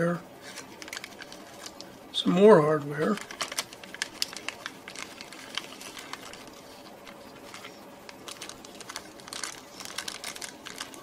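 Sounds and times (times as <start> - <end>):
plastic bags crinkling: 0.4 - 1.9, 3.0 - 11.0.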